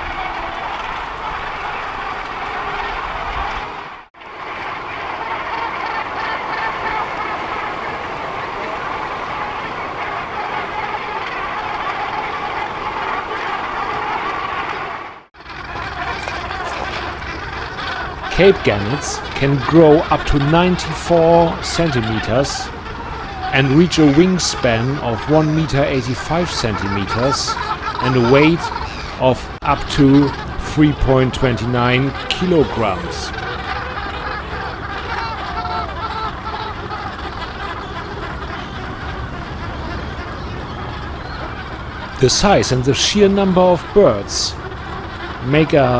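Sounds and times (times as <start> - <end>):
seabird colony calling: 0.0 - 45.9.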